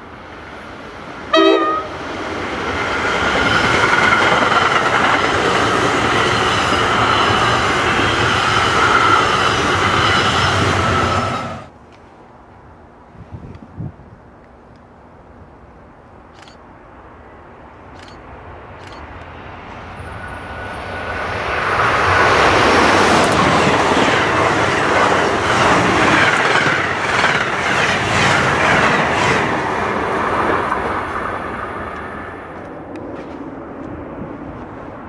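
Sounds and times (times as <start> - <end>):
train wheels on rails: 0.0 - 12.0, 17.9 - 35.0.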